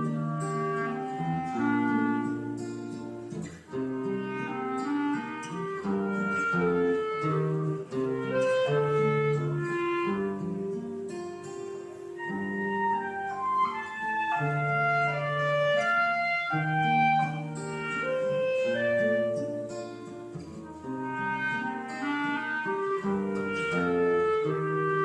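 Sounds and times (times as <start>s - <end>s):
acoustic guitar accompaniment: 0.0s - 25.0s
clarinet melody: 0.0s - 25.0s.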